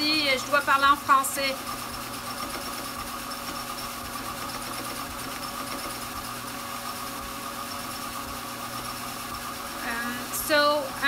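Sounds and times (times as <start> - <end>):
drum carder motor running: 0.0 - 11.0.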